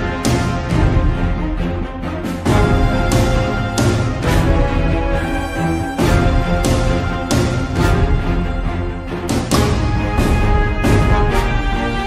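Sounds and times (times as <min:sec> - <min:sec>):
theme music with beat: 0:00.0 - 0:12.0.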